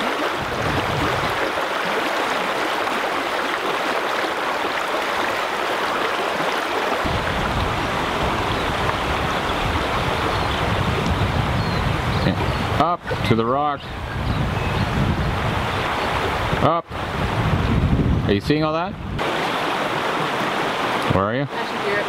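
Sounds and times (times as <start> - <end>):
stream rushing over stones: 0.0 - 14.2, 15.0 - 18.0, 19.0 - 22.0.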